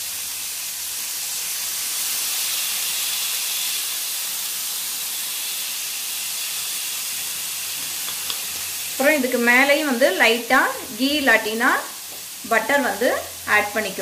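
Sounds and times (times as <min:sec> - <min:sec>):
chicken sizzling in a frying pan: 0:00.0 - 0:14.0.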